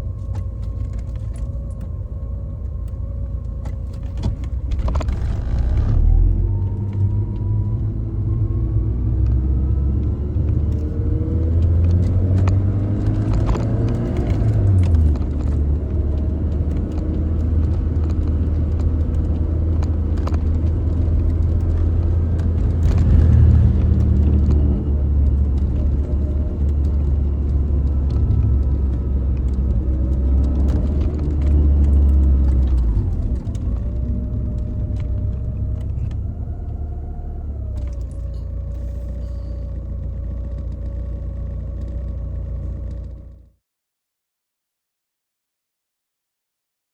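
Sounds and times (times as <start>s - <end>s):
car engine droning: 0.0s - 43.6s.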